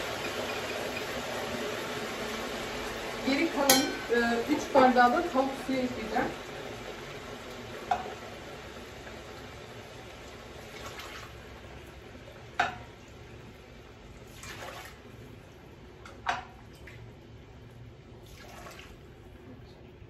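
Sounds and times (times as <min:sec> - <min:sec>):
broth pouring into a pot: 0:00.0 - 0:15.6, 0:16.5 - 0:20.0.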